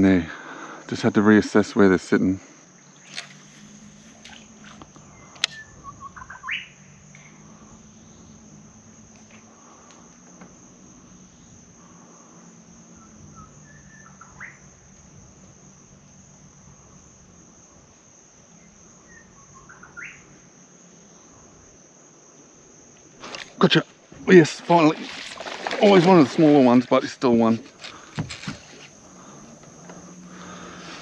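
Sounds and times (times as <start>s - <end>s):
high-pitched insect drone: 1.2s - 31.0s.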